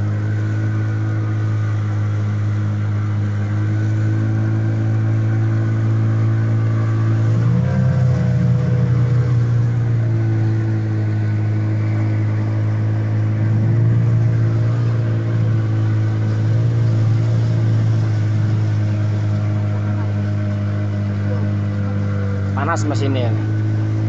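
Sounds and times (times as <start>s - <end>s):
outboard motor drone: 0.0s - 24.0s.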